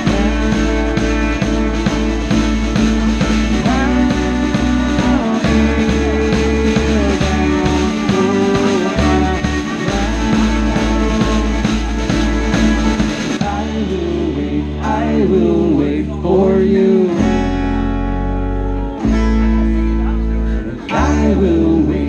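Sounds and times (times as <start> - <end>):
folk-rock band playing: 0.0 - 22.0.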